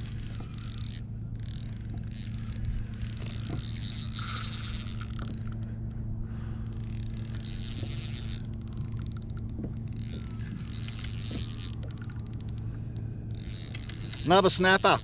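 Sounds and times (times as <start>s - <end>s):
fishing reel clicking: 0.0s - 6.0s, 6.6s - 15.0s
fishing reel drag buzzing: 0.0s - 15.0s.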